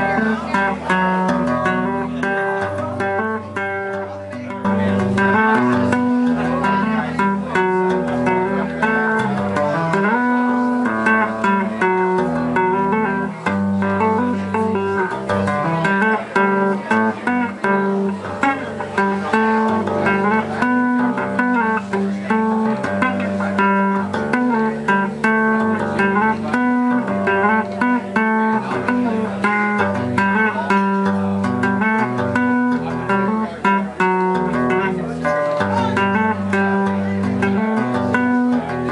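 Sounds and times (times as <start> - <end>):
electric bass tapping: 0.0 - 38.9.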